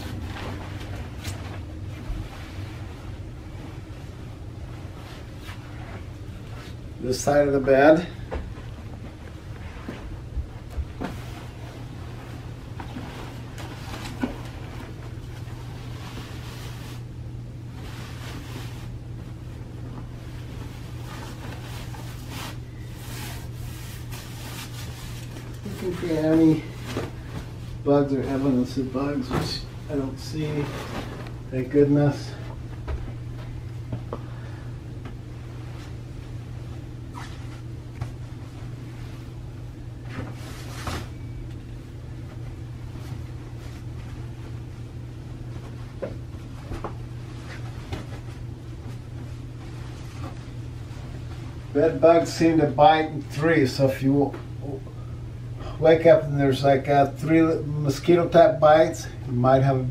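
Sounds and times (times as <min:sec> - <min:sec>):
bed sheets rustling: 0:00.0 - 0:53.2
steady low hum: 0:00.0 - 0:59.9.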